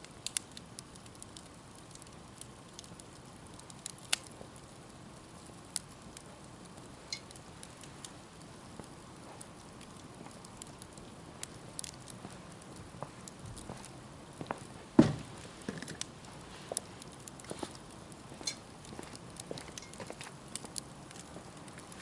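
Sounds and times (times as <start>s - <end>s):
campfire hissing: 0.0s - 22.0s
fire pops and crackles: 0.0s - 22.0s.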